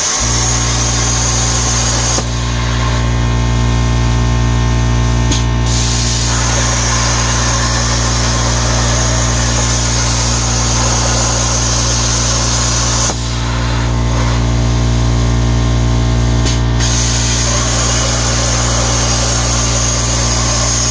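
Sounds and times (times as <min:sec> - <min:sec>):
plasma torch hissing: 0:00.0 - 0:03.8, 0:05.4 - 0:15.0, 0:16.8 - 0:20.9
machine electrical hum: 0:00.0 - 0:20.9.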